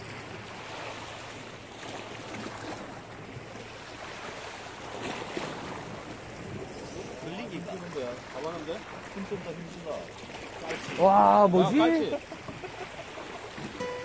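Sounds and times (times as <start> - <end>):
sea water washing on shore: 0.0 - 13.8.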